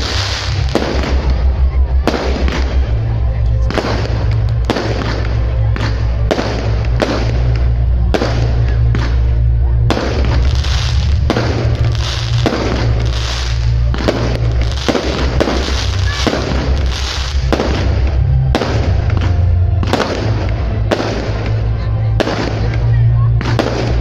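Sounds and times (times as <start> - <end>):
fireworks bursting with bangs: 0.0 - 24.0
fireworks crackling: 0.0 - 24.0
music with heavy bass: 0.0 - 24.0.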